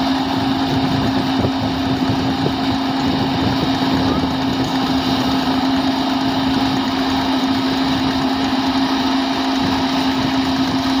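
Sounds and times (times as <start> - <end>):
threshing machine running: 0.0 - 11.0.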